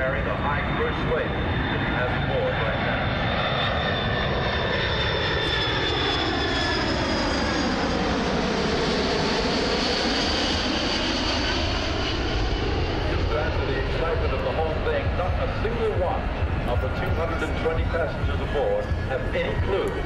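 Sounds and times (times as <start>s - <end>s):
jet engines passing overhead: 0.0s - 20.0s.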